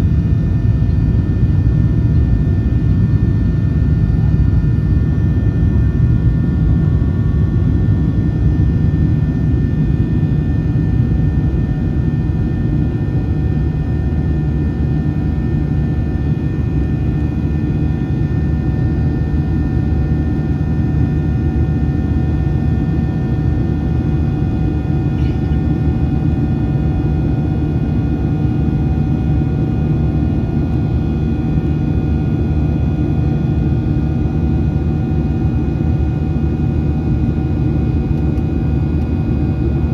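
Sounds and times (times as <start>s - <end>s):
jet engine rumble and airflow: 0.0s - 39.9s.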